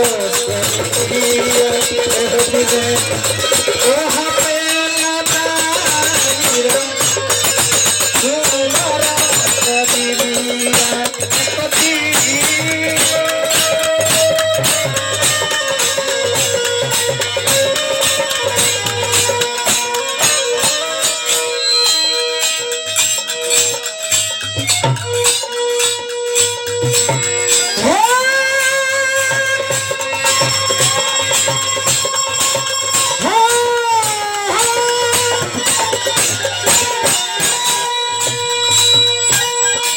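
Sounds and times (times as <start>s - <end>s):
hand drum rhythm: 0.0s - 39.9s
jingling percussion: 0.0s - 39.9s.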